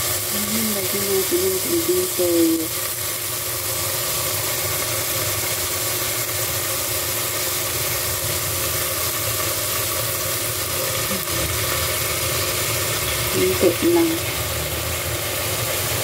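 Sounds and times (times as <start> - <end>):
chicken and onions sizzling in oil: 0.0 - 16.0.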